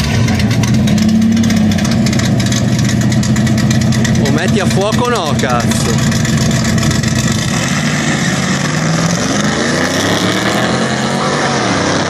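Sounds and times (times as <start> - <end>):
car engines revving and accelerating: 0.0 - 12.0.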